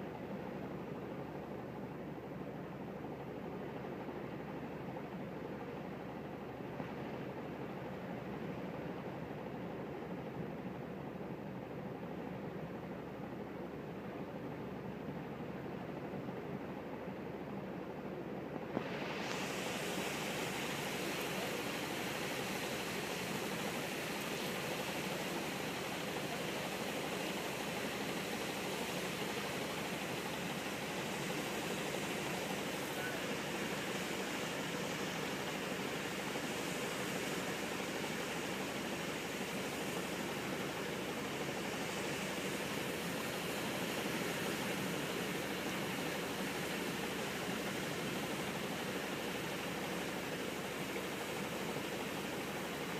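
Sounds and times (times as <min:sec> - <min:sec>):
wind: 0:00.0 - 0:52.9.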